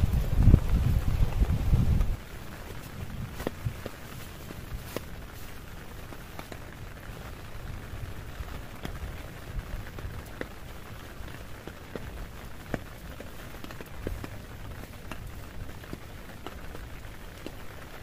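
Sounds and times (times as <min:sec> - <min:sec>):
heavy rain falling: 0:00.0 - 0:18.0
raindrop impacts ticking: 0:00.0 - 0:18.0.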